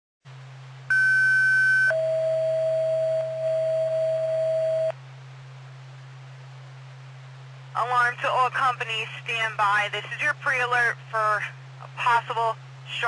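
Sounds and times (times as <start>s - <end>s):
steady low hum: 0.3s - 13.0s.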